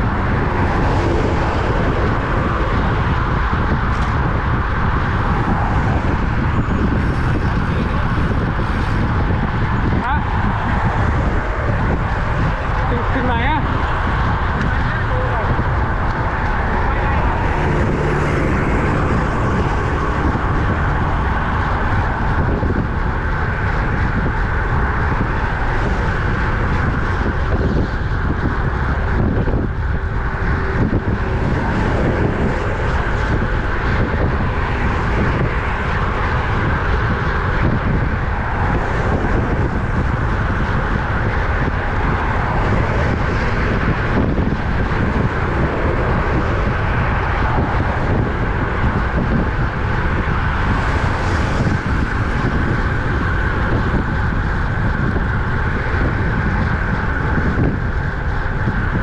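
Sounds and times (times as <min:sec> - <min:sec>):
road noise: 0:00.0 - 0:59.0
wind rumble on microphone: 0:00.0 - 0:59.0.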